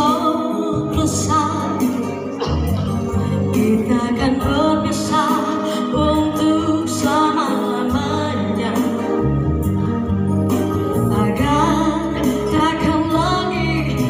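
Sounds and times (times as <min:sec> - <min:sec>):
woman singing with vibrato: 0:00.0 - 0:09.5, 0:10.9 - 0:14.0
backing music: 0:00.0 - 0:14.0.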